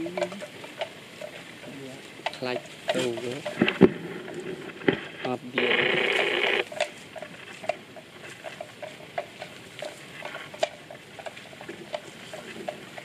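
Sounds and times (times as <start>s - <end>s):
animal crunching grass: 0.0s - 13.0s.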